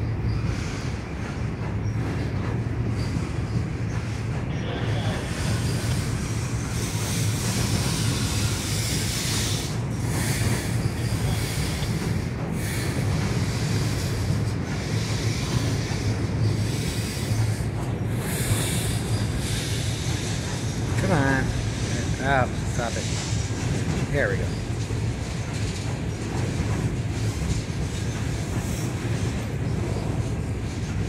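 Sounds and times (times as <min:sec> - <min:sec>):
freight train rolling over bridge: 0:00.0 - 0:31.0.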